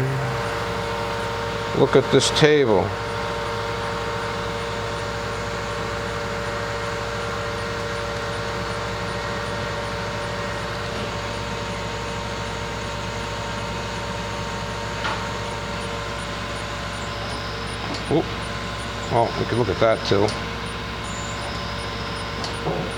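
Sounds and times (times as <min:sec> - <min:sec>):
grinder machine humming: 0:00.0 - 0:22.9.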